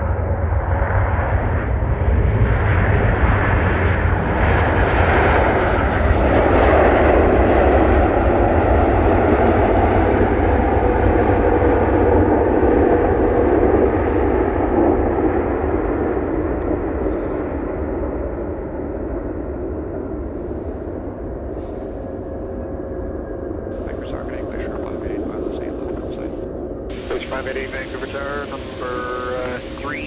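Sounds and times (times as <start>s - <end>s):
jet engine rushing roar: 0.0s - 30.0s
steady low rumble: 0.0s - 30.0s.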